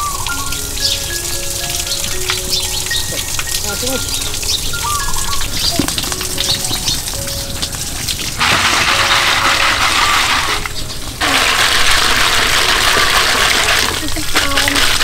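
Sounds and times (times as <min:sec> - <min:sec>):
water gushing from spout: 0:00.0 - 0:15.0.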